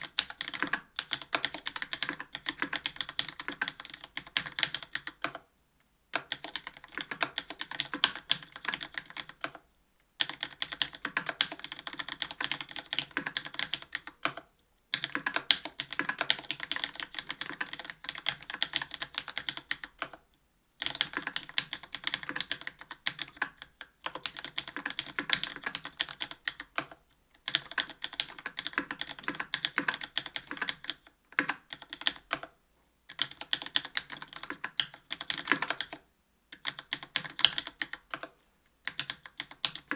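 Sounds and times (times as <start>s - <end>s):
mechanical keyboard typing: 0.0s - 5.5s, 6.1s - 9.6s, 10.2s - 20.2s, 20.8s - 32.5s, 33.1s - 39.9s.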